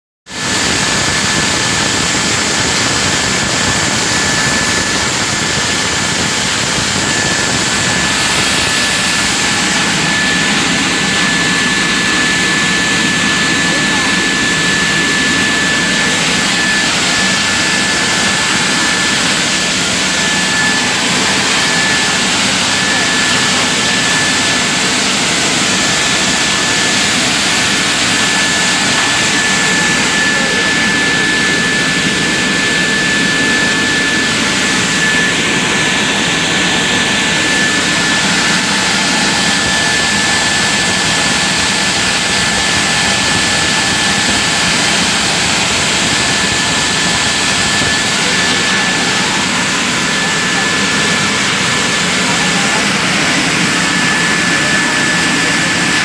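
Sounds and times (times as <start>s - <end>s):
high whine: 0.3s - 56.0s.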